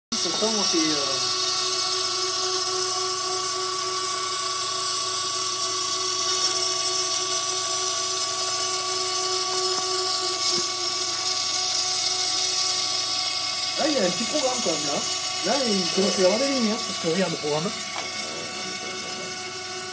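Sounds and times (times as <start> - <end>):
router spindle whining: 0.1 - 19.9.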